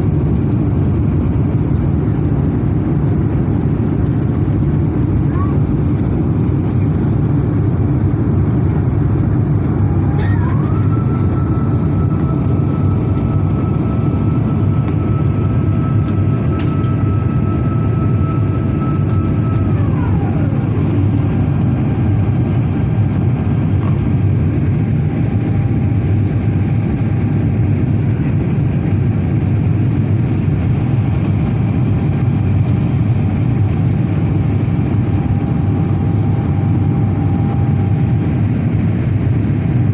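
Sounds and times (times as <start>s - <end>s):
airplane cabin roar: 0.0s - 39.9s
faint whine: 0.0s - 39.9s.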